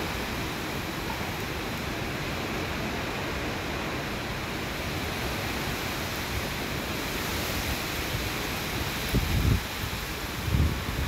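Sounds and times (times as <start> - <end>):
heavy rain: 0.0 - 11.0
strong wind: 0.0 - 11.0.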